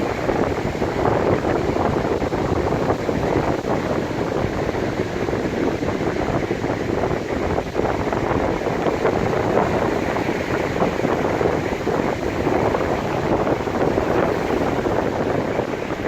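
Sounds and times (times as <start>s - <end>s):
surf on sandy shore: 0.0s - 16.0s
wind buffeting microphone: 0.0s - 16.0s.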